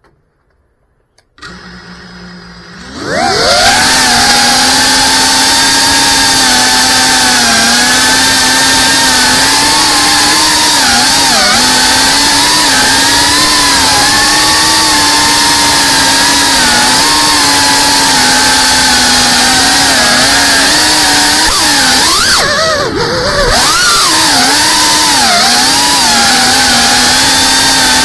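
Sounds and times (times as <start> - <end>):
drone motors whining: 1.4 - 28.0.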